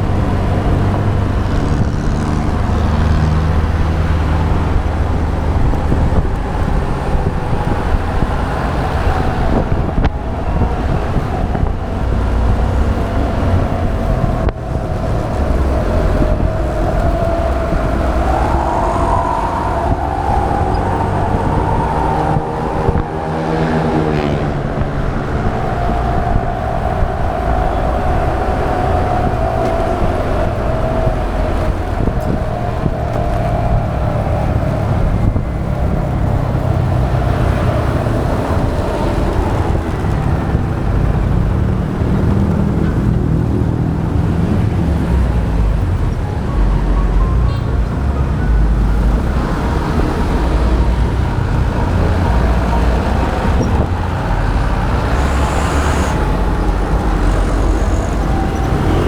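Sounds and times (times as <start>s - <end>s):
vehicles passing by: 0.0s - 59.0s
wind rumble on microphone: 0.0s - 59.0s.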